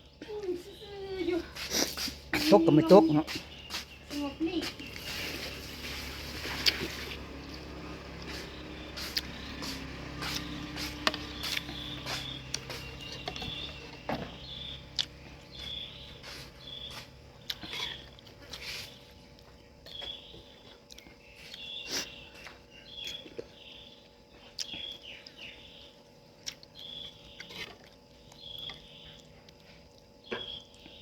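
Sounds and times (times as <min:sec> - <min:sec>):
bird chirping: 0:02.4 - 0:19.1, 0:19.8 - 0:26.1, 0:26.7 - 0:29.3, 0:30.2 - 0:31.0.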